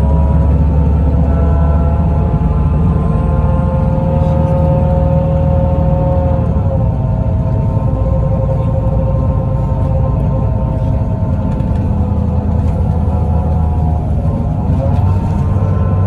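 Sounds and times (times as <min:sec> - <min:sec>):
bus engine rumble: 0:00.0 - 0:16.0
rising whine: 0:00.0 - 0:16.0.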